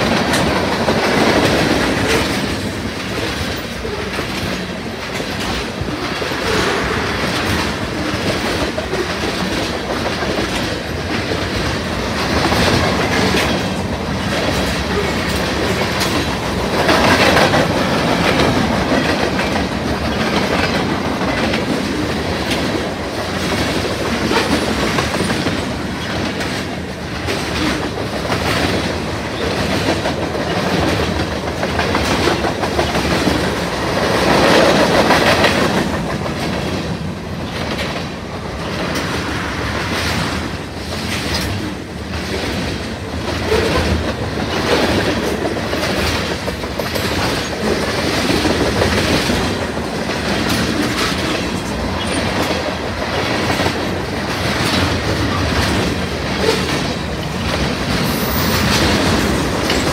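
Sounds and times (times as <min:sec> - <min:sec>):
freight train cars rumbling: 0:00.0 - 0:59.9
wheels clacking over rail joints: 0:00.0 - 0:59.9.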